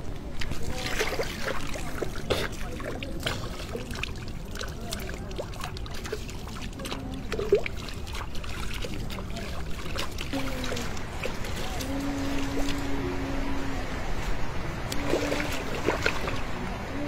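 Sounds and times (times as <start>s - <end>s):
hands splashing pond water: 0.0s - 12.9s, 14.8s - 16.6s.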